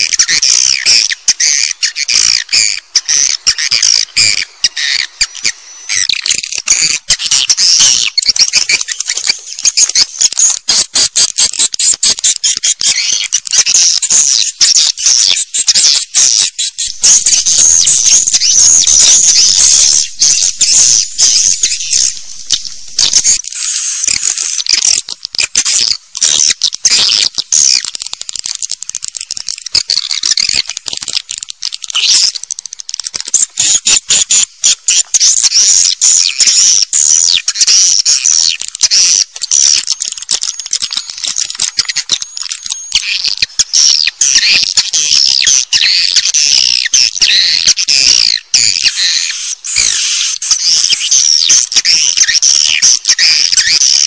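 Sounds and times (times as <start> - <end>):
swiftlets twittering: 0.0 - 54.0.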